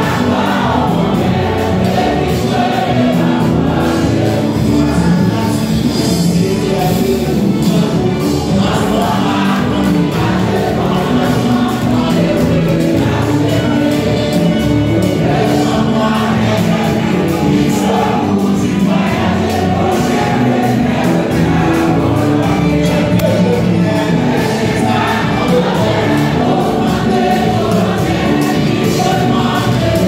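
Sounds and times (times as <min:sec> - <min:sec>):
choir singing a hymn: 0:00.0 - 0:30.0
instrumental accompaniment with beat: 0:00.0 - 0:30.0.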